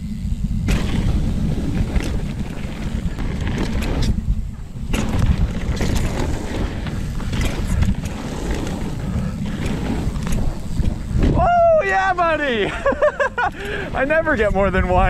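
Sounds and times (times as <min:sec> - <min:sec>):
bike clattering and rattling: 0:00.0 - 0:15.0
wind rushing over microphone: 0:00.0 - 0:15.0
tyres rumbling on dirt: 0:00.6 - 0:15.0.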